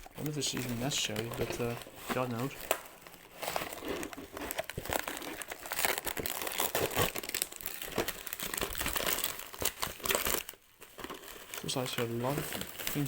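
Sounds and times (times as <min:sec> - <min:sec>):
plastic packing crinkling: 0:00.0 - 0:13.0
plastic tearing: 0:00.0 - 0:13.0.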